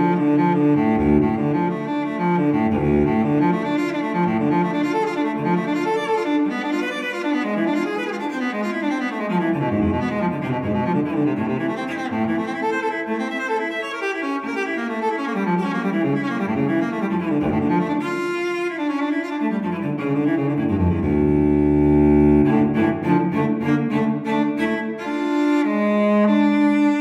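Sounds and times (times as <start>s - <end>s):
low bowed strings music: 0.0s - 27.0s.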